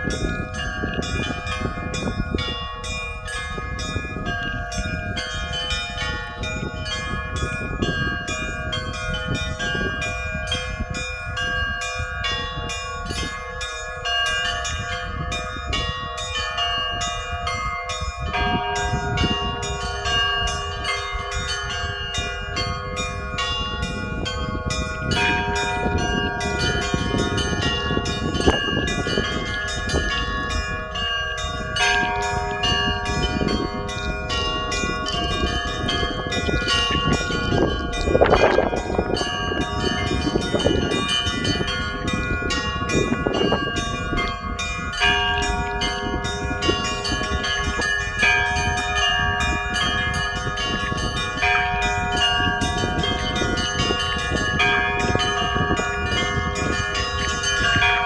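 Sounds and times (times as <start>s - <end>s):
church bells pealing: 0.0s - 58.0s
deep bell: 0.0s - 58.0s.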